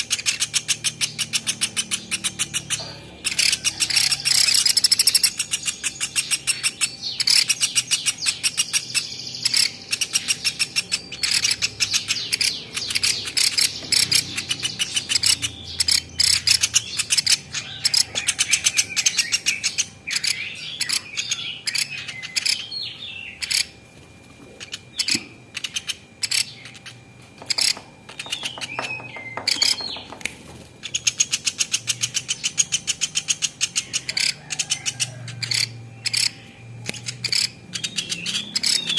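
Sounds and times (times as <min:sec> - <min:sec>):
woodpecker rapid ticking calls: 0:00.0 - 0:23.8, 0:24.6 - 0:38.9.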